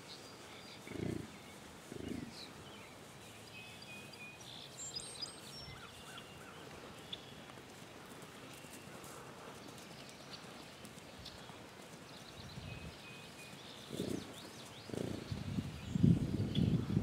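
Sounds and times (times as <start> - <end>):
birds chirping: 0.0 - 17.0
hoofbeats on grass: 0.1 - 16.3.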